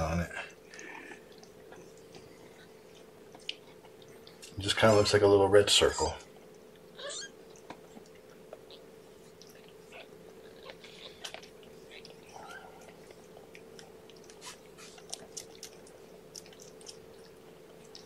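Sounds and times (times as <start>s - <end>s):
steady low hum: 0.0s - 18.0s
kittens suckling wet clicking: 0.4s - 4.6s, 6.3s - 18.0s.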